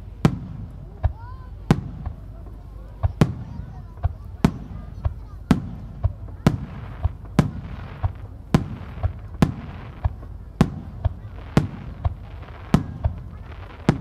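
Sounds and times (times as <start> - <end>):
faint firework thumps: 0.0 - 14.0
firework shells bursting loudly: 0.0 - 14.0.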